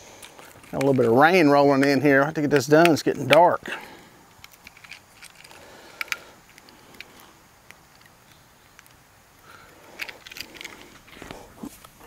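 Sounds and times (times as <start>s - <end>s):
fishing line clicks and rustling: 0.0s - 12.0s
low hiss: 0.0s - 12.0s.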